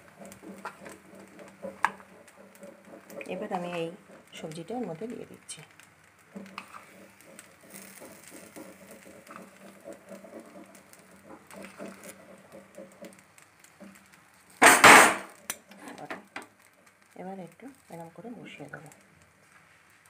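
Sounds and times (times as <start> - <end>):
vegetables scattered on a pan: 0.0 - 20.0.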